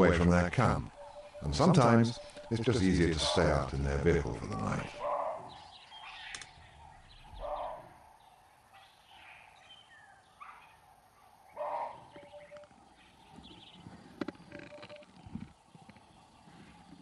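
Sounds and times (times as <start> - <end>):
bird calls and chirps: 0.0 - 10.8, 11.4 - 17.0
faint steady background: 0.0 - 17.0.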